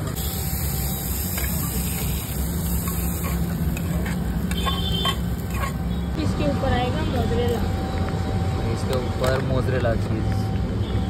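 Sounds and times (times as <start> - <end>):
low hum and hiss of street: 0.0 - 11.0.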